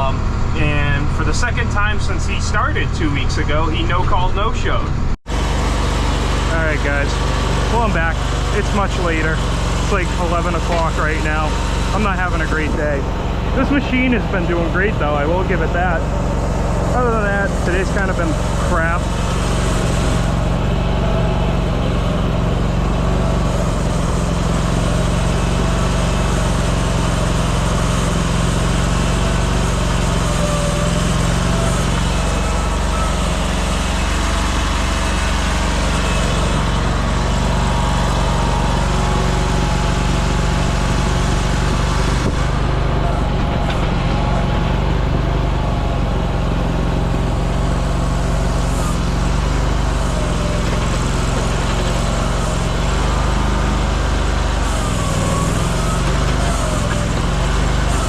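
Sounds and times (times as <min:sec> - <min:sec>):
construction equipment engine running: 0:00.0 - 0:58.0.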